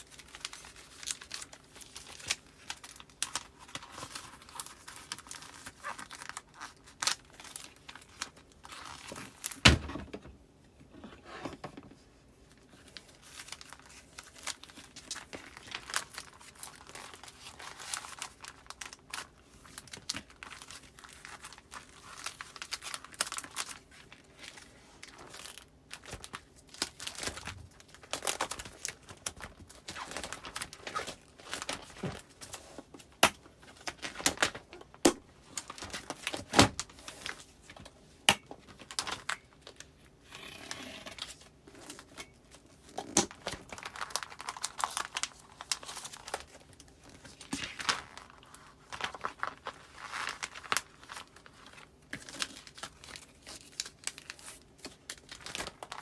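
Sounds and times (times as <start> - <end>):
plastic and paper crinkling: 0.0 - 10.2, 10.9 - 40.2, 41.1 - 56.0.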